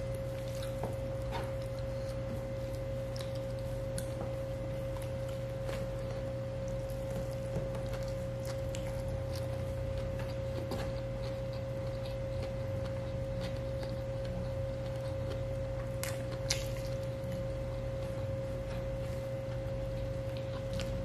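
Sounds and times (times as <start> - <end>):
man chewing food: 0.0 - 21.0
steady hum: 0.0 - 21.0.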